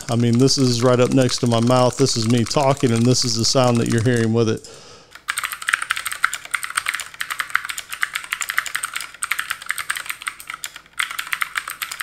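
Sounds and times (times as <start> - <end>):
clicky mechanical keyboard typing: 0.0 - 4.4, 5.1 - 12.0.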